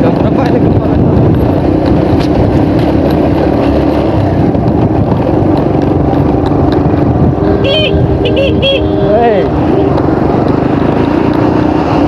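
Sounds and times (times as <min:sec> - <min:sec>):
small motorcycle rumble: 0:01.0 - 0:12.0.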